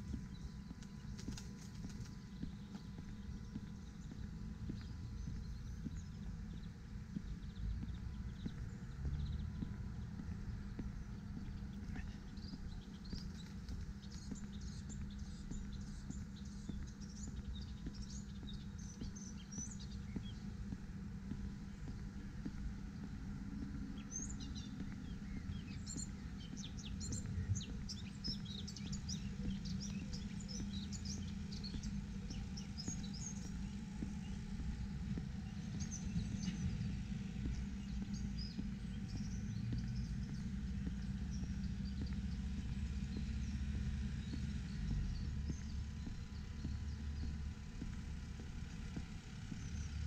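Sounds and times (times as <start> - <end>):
low outdoor rumble: 0.0 - 50.0
small birds chirping: 0.0 - 50.0.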